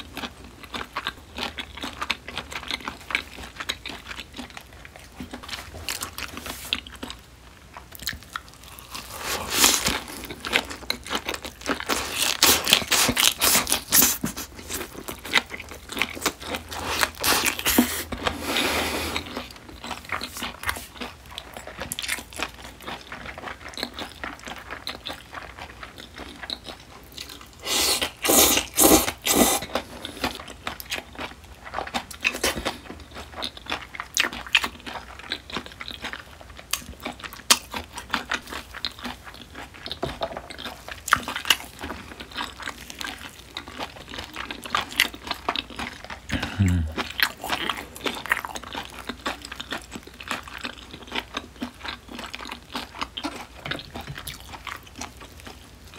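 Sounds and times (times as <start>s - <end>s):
wet crunchy chewing: 0.0s - 55.9s.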